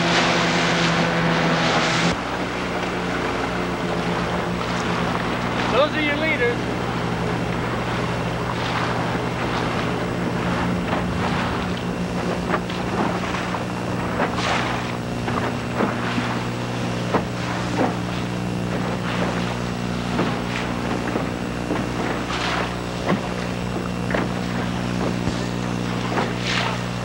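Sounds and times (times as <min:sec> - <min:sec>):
motorboat engine humming: 0:00.0 - 0:27.0
water swishes: 0:00.0 - 0:27.0
wind and water rushing: 0:00.0 - 0:27.0.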